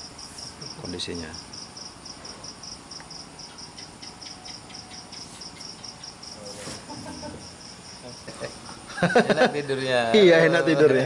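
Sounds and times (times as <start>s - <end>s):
night insects chirping: 0.0s - 11.0s.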